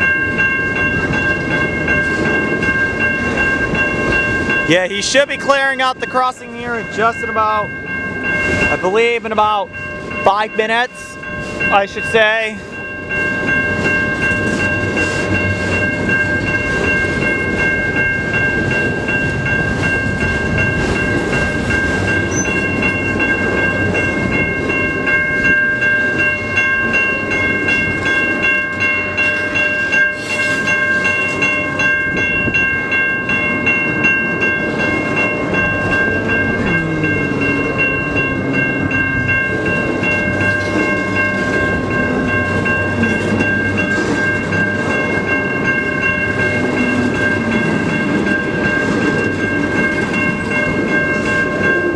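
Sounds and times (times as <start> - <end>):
crossing bell ringing: 0.0 - 51.9
train wheels clattering on rails: 0.0 - 51.9.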